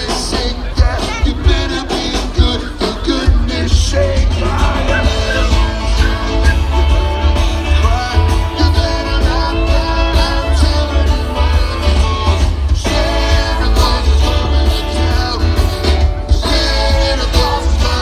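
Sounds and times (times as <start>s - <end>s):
live band playing amplified music: 0.0s - 18.0s.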